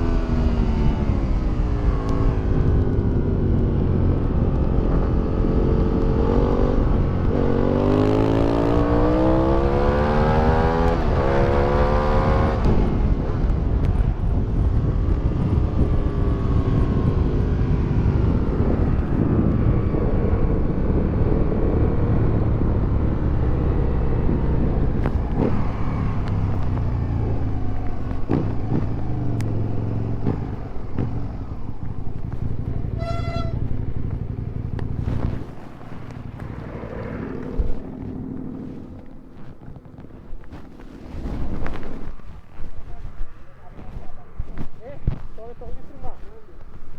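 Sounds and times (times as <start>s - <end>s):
motorcycle accelerating: 0.0s - 46.9s.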